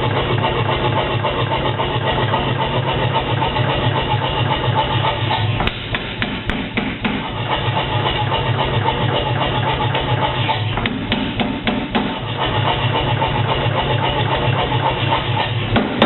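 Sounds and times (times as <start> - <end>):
power hammer pounding steel: 0.0 - 16.0.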